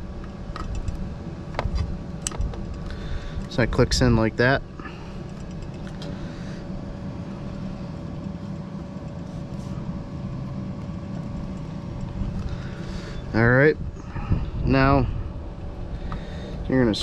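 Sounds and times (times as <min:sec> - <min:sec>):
faint constant hum: 0:00.0 - 0:17.0
low background rumble: 0:00.0 - 0:17.0.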